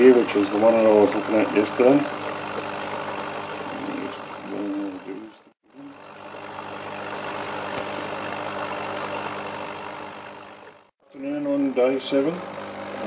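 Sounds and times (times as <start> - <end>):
air pump humming: 0.0 - 13.0.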